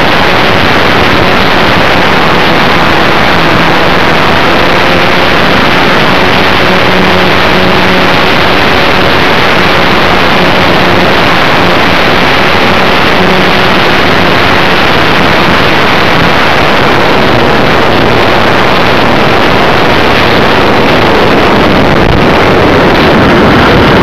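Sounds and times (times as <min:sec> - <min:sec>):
model plane motor and propeller: 0:00.0 - 0:24.0
wind rush: 0:00.0 - 0:24.0.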